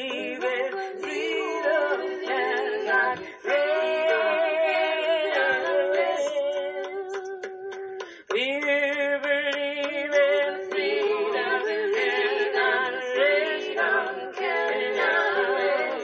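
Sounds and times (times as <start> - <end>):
group singing a cappella: 0.0 - 16.0.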